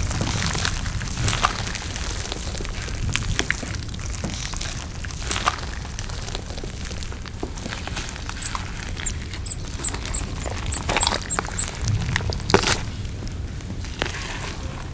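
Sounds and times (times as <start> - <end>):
chewing with mouth clicks: 0.2 - 13.0.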